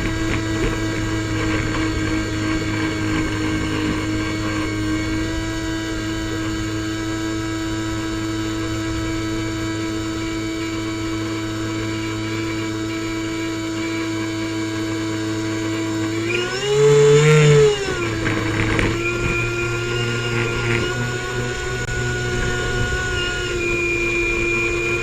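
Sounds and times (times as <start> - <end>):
airboat engine and propeller: 0.0 - 25.0.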